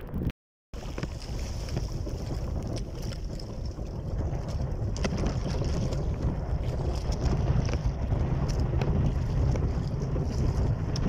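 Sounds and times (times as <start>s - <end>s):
sea ambience: 0.0s - 11.0s
wind buffeting microphone: 0.0s - 11.0s.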